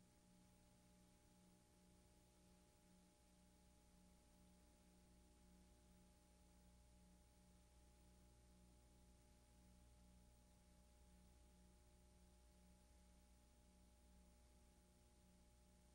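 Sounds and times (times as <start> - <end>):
faint electrical hum: 0.0 - 15.9.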